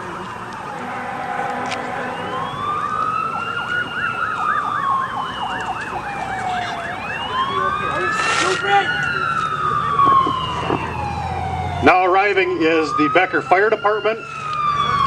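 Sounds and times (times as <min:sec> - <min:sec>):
siren slow wail: 0:00.0 - 0:15.0
siren fast yelp: 0:00.6 - 0:15.0.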